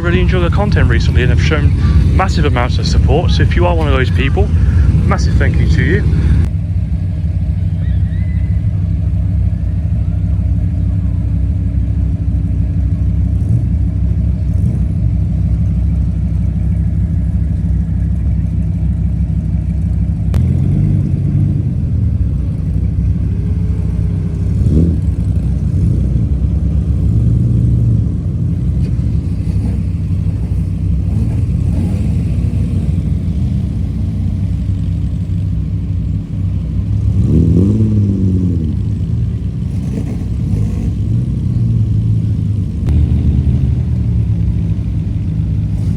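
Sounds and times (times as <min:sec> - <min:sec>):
car engines idling: 0:00.0 - 0:45.9
car engines revving: 0:00.0 - 0:45.9.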